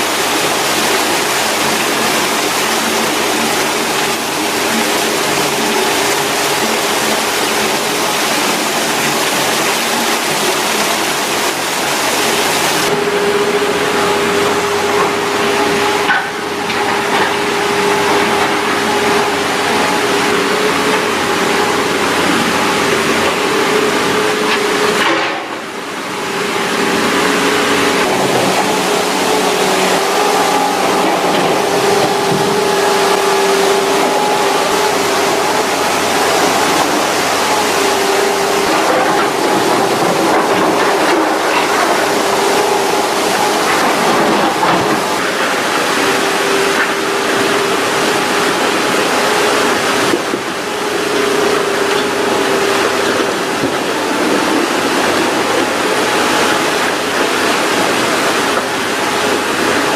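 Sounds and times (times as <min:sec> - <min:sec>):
heavy machine engine running: 0:00.0 - 0:59.9
loud rushing noise: 0:00.0 - 0:59.9.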